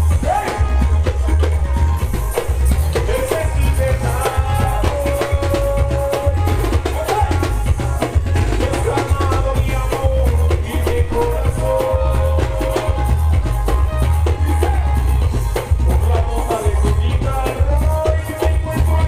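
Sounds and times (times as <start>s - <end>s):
drums and percussion: 0.0s - 19.0s
heavy pulsing bass: 0.0s - 19.0s
loud dance music: 0.0s - 19.0s.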